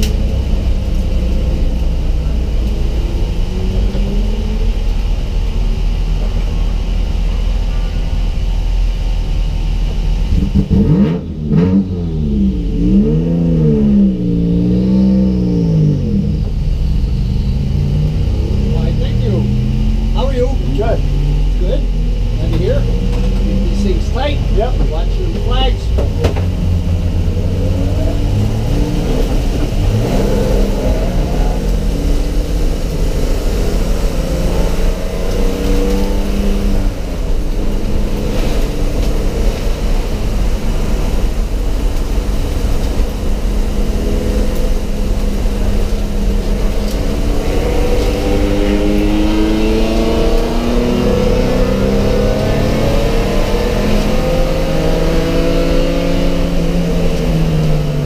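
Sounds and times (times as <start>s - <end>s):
race car engine revving: 9.8s - 58.0s.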